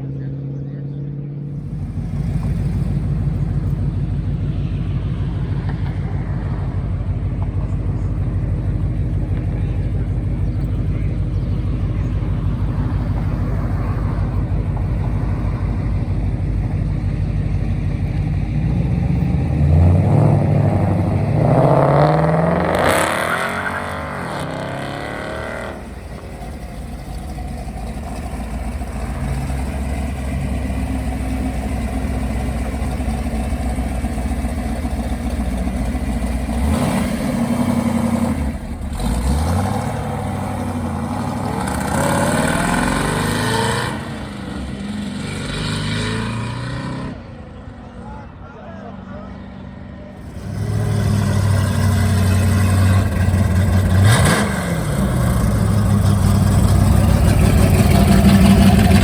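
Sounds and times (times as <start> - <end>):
car engines running: 0.0 - 59.0
car accelerating hard: 1.4 - 47.7, 50.1 - 59.0
engine revving: 1.4 - 47.7, 50.1 - 59.0.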